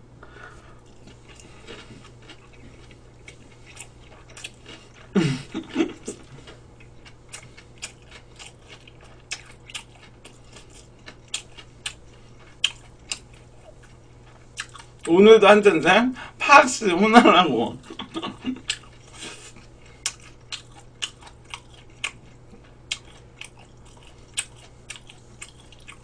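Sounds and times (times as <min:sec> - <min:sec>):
crisp chewing crunches: 0:00.8 - 0:15.1, 0:18.1 - 0:26.0.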